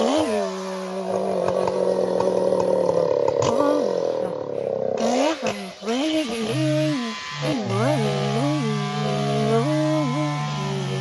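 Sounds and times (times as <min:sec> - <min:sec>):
chainsaw engine revving: 0:00.0 - 0:11.0.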